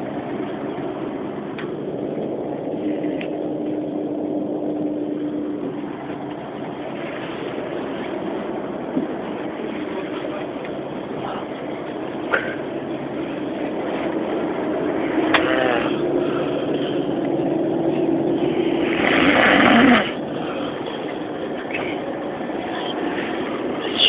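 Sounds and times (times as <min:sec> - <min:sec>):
moving vehicle rumble: 0:00.0 - 0:24.0.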